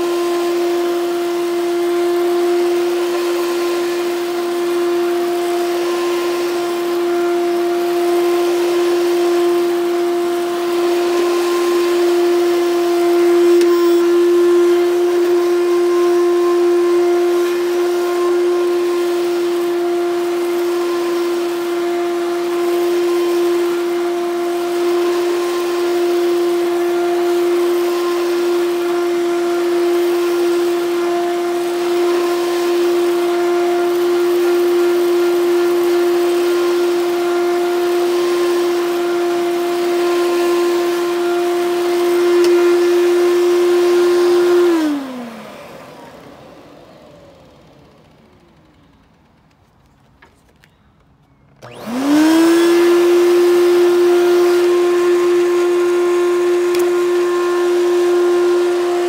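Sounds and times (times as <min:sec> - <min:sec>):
vacuum cleaner motor whining: 0:00.0 - 0:59.0.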